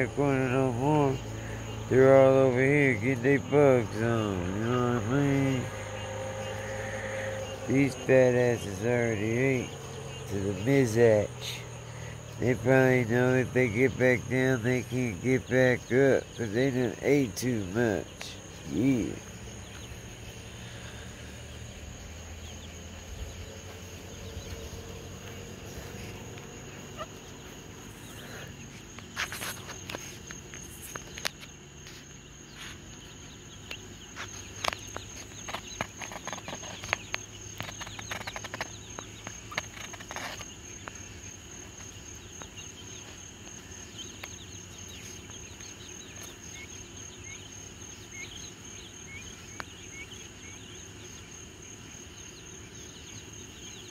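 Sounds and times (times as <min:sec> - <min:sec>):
crickets trilling: 0:00.0 - 0:53.9.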